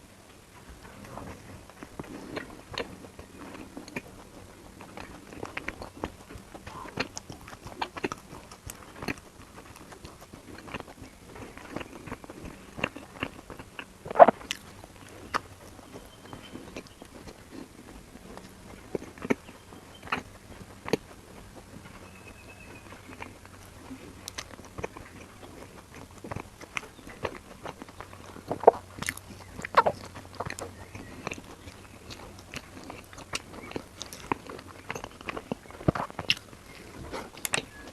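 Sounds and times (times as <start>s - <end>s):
small crunches and clicks: 0.3s - 37.9s
person chewing food: 0.6s - 37.9s.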